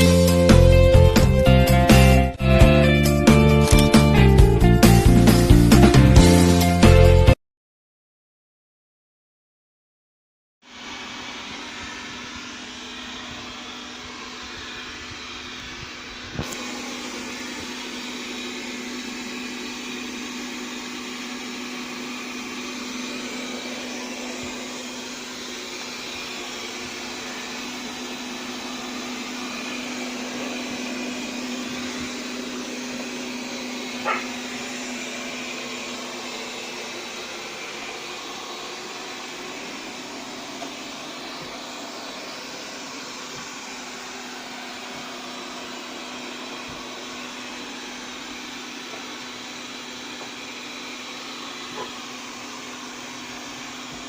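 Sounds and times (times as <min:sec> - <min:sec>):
robot vacuum motor humming: 0:10.7 - 0:54.0.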